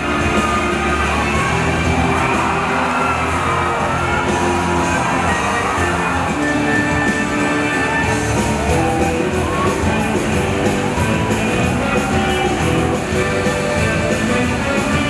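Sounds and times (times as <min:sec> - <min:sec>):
upbeat rock music: 0:00.0 - 0:15.0.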